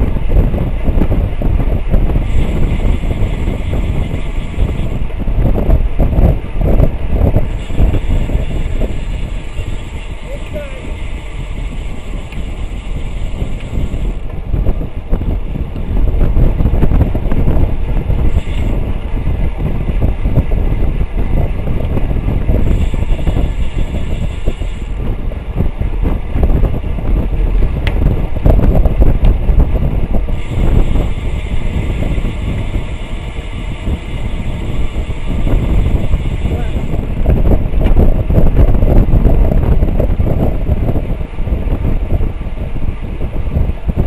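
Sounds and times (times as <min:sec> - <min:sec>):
tyre and road rumble: 0:00.0 - 0:44.0
wind buffeting microphone: 0:00.0 - 0:44.0.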